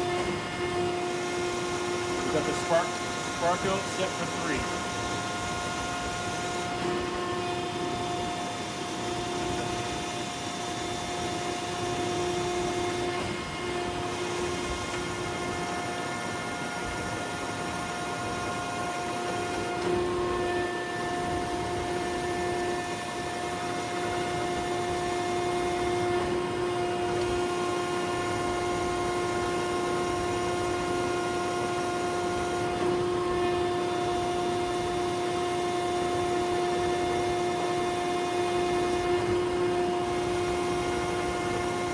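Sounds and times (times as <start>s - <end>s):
grinding machine hum: 0.0s - 41.9s.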